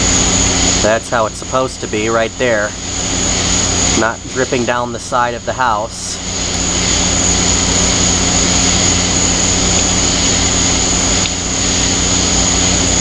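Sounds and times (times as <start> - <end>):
air conditioner fan rushing: 0.0 - 13.0
high whine: 0.0 - 13.0
low electric hum: 0.0 - 13.0.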